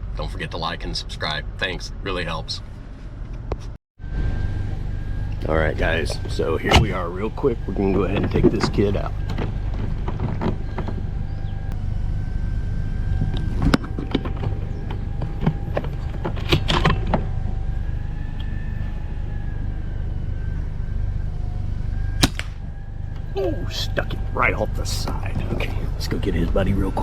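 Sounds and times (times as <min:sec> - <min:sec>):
vehicle idling: 0:00.0 - 0:27.0.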